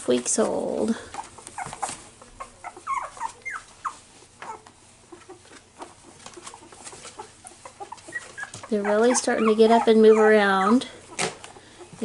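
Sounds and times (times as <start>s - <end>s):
puppies squeaking and whimpering: 1.0s - 12.0s.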